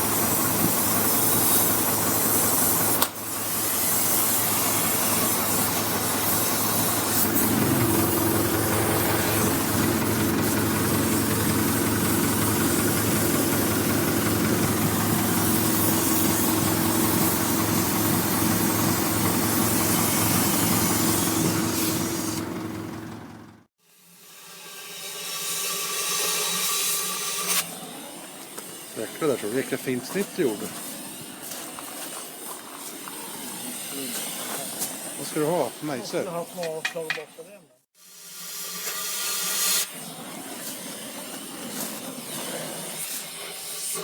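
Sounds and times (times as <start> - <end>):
cutting torch hissing: 0.0 - 23.0, 23.9 - 44.0.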